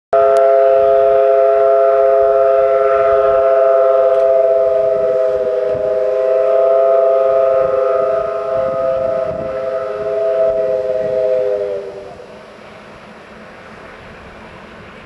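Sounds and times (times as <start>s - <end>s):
electric train whistle blast: 0.1s - 12.7s.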